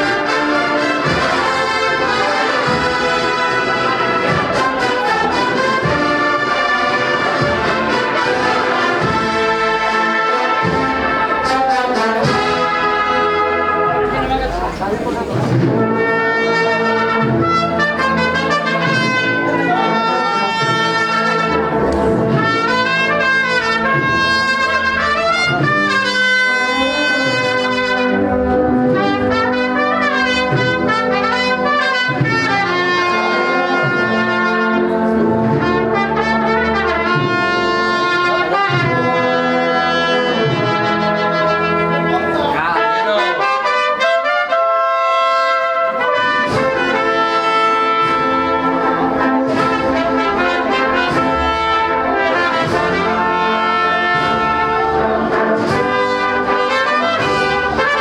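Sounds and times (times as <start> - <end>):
brass band playing a march: 0.0 - 58.0
low brass bass line: 0.0 - 58.0
trumpet melody: 0.0 - 58.0.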